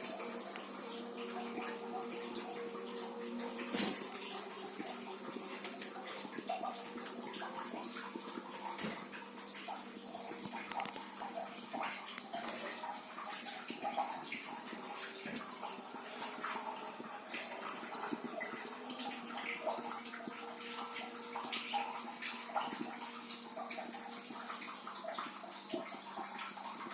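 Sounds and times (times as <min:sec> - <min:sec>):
water heater rushing and gurgling: 0:00.0 - 0:26.9.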